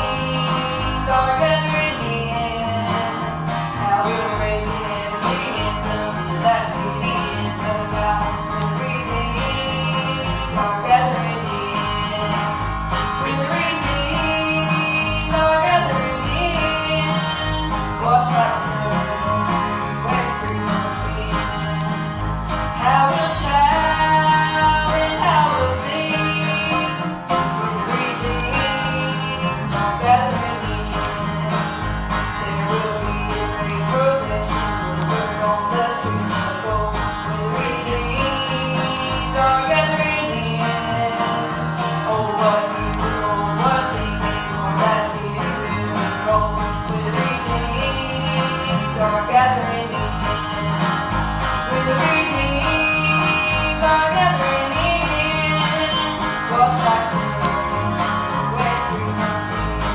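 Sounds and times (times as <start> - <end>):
acoustic guitar: 0.0 - 59.9
banjo: 0.0 - 59.9
bass beat: 0.0 - 59.9
person singing: 0.0 - 59.9.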